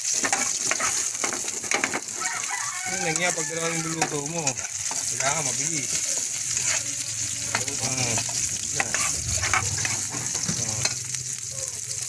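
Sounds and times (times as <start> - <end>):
metal spatula scraping pan: 0.0 - 2.2, 2.8 - 11.0
garlic and onion sizzling in oil: 0.0 - 12.0.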